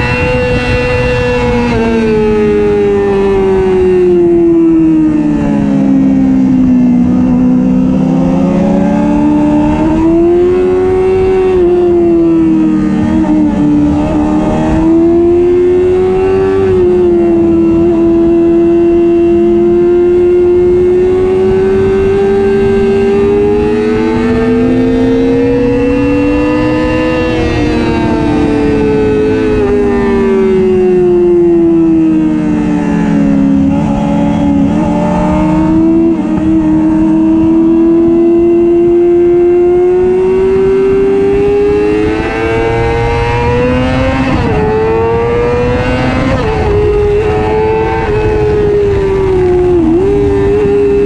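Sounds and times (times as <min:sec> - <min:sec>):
motorcycle engine running hard: 0:00.0 - 0:51.0
wind rush: 0:00.0 - 0:51.0.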